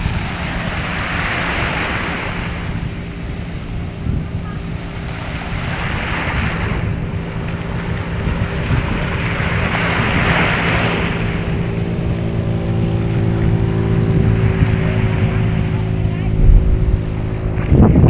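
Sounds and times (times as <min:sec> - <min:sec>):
motor engine running: 0:00.0 - 0:18.0
sea waves washing in: 0:00.0 - 0:18.0.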